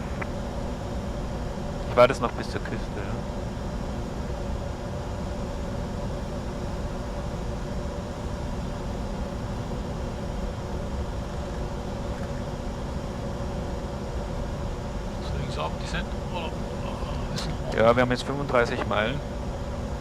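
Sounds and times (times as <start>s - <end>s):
steady tonal hum: 0.0s - 20.0s.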